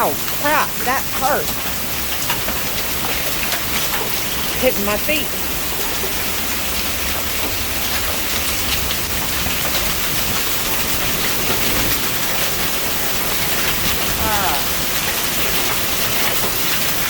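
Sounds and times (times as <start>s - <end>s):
hailstones ticking: 0.0s - 17.0s
heavy rain and hail: 0.0s - 17.0s.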